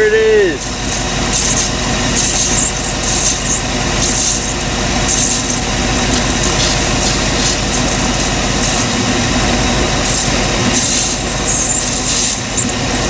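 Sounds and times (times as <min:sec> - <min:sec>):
car engine idling: 0:00.0 - 0:13.0
hiss of water on hot engine: 0:00.6 - 0:13.0.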